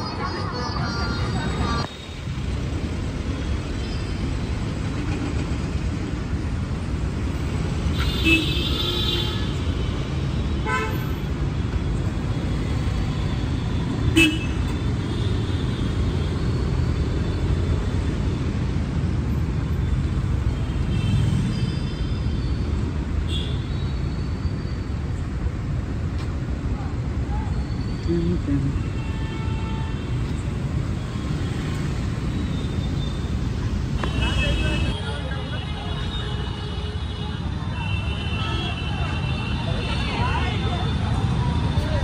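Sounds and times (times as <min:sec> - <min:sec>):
city traffic rumbling: 0:00.0 - 0:42.0.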